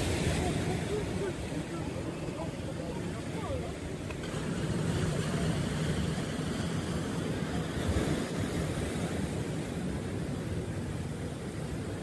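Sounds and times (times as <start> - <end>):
sea waves breaking: 0.0 - 12.0.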